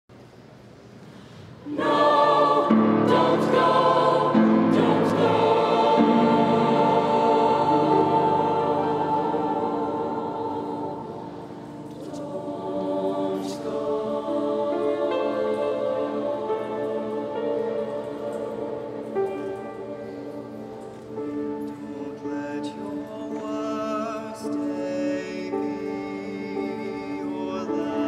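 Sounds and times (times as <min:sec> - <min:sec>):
choir singing sustained chords: 0:01.3 - 0:28.0.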